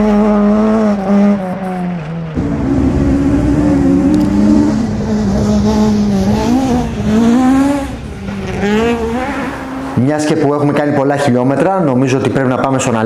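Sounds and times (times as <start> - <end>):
race car engine revving: 0.0 - 11.4.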